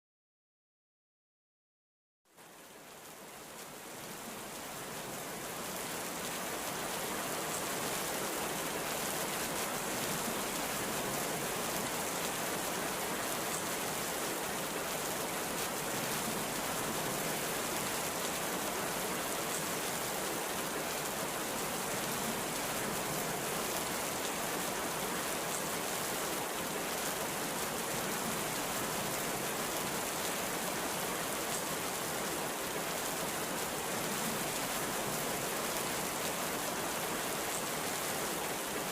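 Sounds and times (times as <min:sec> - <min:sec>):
heavy rain pouring: 0:02.4 - 0:38.9.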